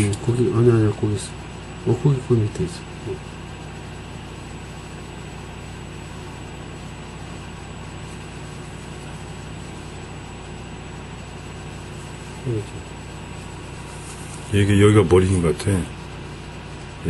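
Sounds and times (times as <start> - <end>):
machine hum with hiss: 0.0 - 17.0.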